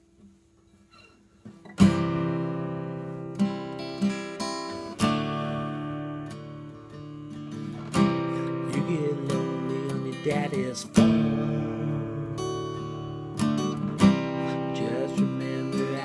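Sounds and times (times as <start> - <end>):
acoustic guitar strumming: 0.8 - 16.0.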